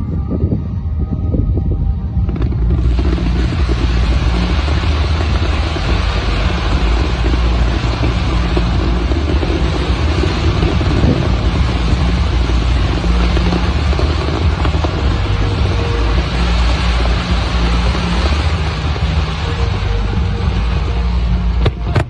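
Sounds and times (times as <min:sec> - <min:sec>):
heavy low rumble: 0:00.0 - 0:22.0
fountain fireworks hissing: 0:02.2 - 0:22.0.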